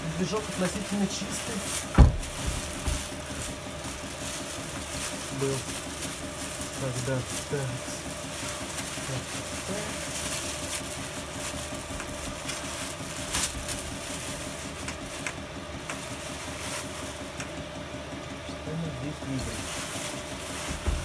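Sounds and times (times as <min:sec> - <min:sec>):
plastic wrapping crinkling: 0:00.0 - 0:17.5, 0:19.3 - 0:21.0
steady low hum: 0:00.0 - 0:21.0.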